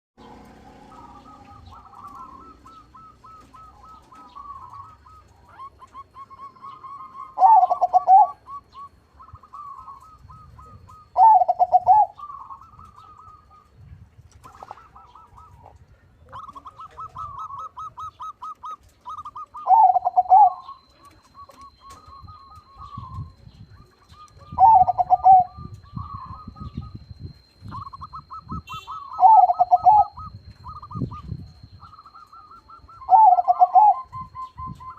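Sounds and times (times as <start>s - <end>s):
dove cooing: 0.2s - 34.9s.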